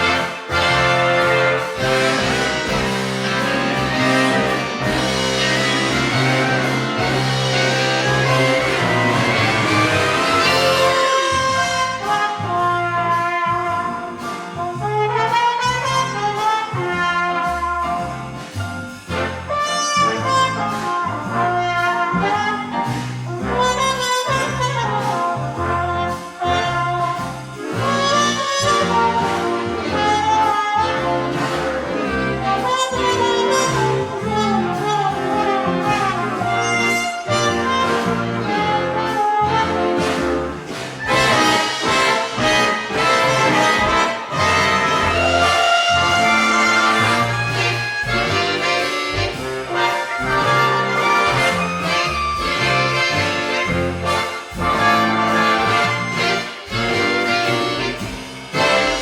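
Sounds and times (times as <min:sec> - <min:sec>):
big band jazz music: 0:00.0 - 0:59.0
trumpets and trombones: 0:00.0 - 0:59.0
walking bass line: 0:00.0 - 0:59.0.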